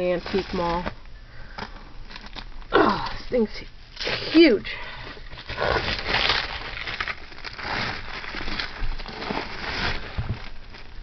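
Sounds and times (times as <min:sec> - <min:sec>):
cellophane crinkling: 0:00.0 - 0:03.1, 0:04.0 - 0:11.0.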